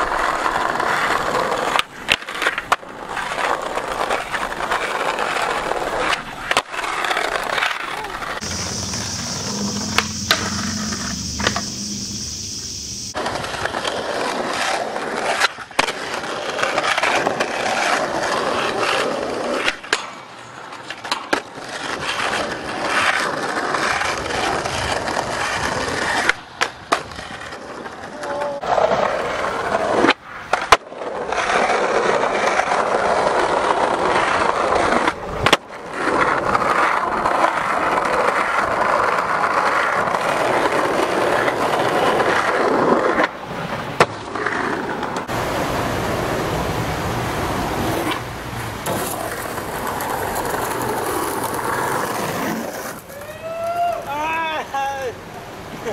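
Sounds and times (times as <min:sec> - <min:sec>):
skateboard clacks: 0:00.0 - 0:45.6, 0:46.3 - 0:55.9
skateboard wheels rolling on concrete: 0:00.0 - 0:55.9.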